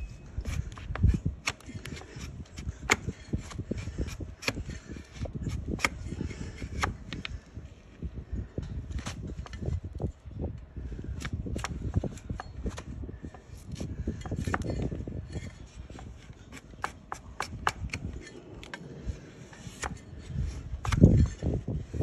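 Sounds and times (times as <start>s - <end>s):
blade cutting and scraping hoof: 0.0s - 7.4s, 11.0s - 22.0s.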